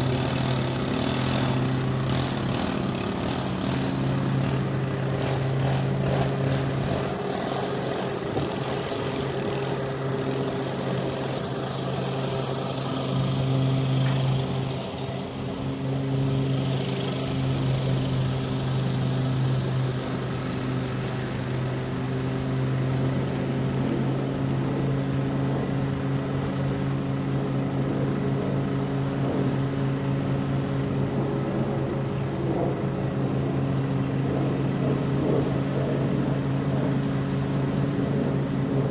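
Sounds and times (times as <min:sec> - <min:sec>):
lawn mower mowing grass: 0:00.0 - 0:38.9.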